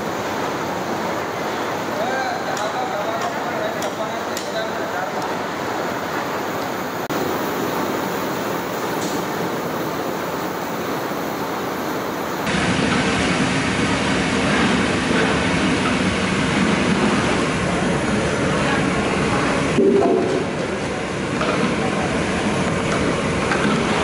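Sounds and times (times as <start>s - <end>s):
gas burner roaring: 0.0s - 24.0s.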